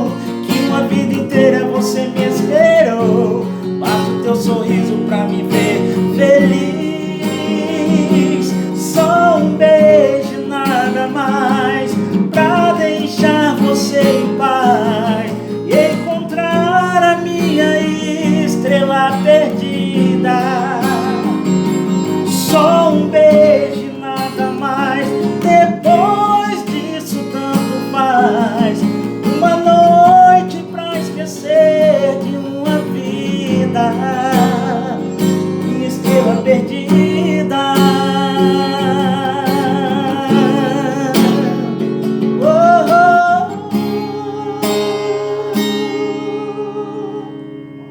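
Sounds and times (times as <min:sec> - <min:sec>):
song with acoustic guitar: 0:00.0 - 0:47.9.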